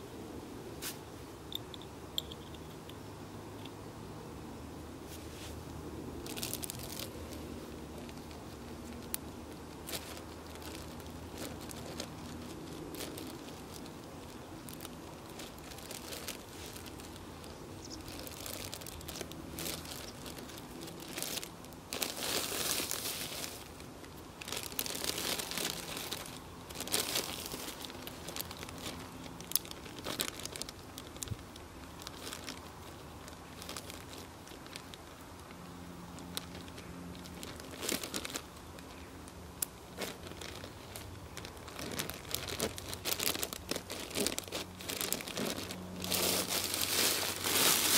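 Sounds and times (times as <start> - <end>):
plastic bags crinkling: 6.2 - 47.9.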